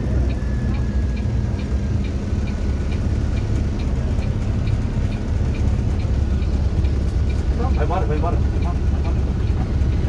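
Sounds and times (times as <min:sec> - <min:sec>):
vehicle engine and road rumble: 0:00.0 - 0:10.0
light ticking: 0:00.1 - 0:10.0.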